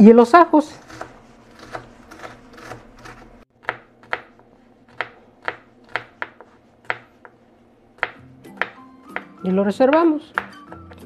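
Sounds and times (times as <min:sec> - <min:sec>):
knife chopping on cutting board: 0:00.8 - 0:07.4, 0:08.0 - 0:11.0.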